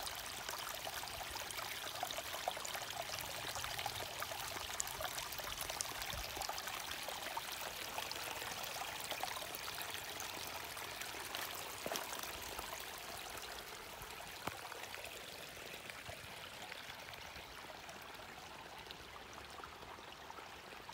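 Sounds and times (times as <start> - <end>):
creek trickling over rocks: 0.0 - 20.9.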